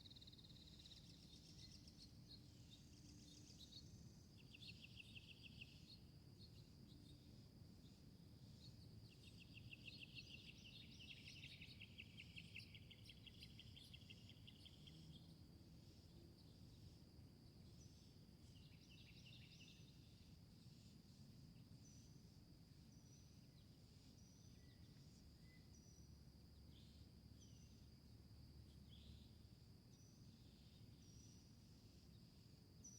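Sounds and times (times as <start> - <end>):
high insect drone: 0.0 - 32.9.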